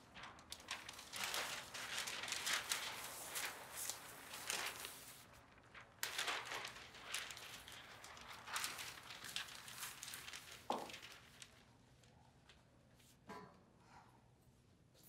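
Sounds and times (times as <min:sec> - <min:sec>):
paper sheets rustling: 0:00.0 - 0:12.2.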